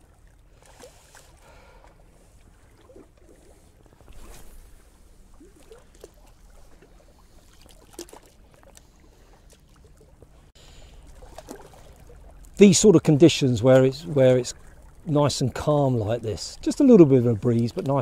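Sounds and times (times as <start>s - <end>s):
light breeze: 0.0s - 18.0s
sea water lapping on rocks: 0.0s - 18.0s.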